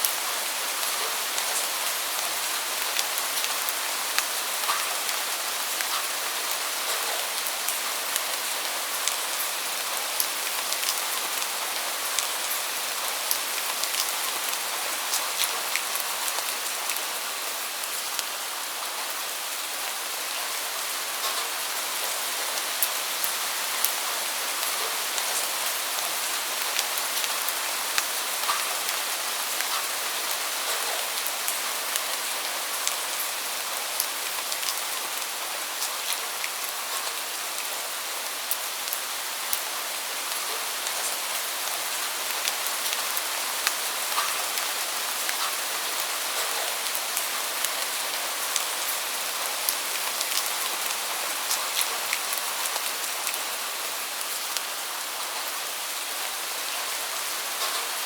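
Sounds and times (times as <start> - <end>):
rain on a hard surface: 0.0 - 58.0.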